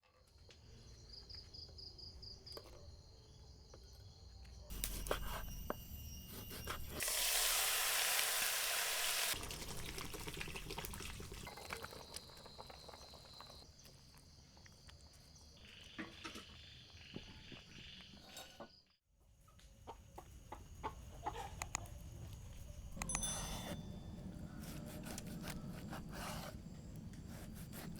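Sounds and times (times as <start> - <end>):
insects chirping: 0.2 - 18.8, 19.4 - 24.6, 25.2 - 27.9.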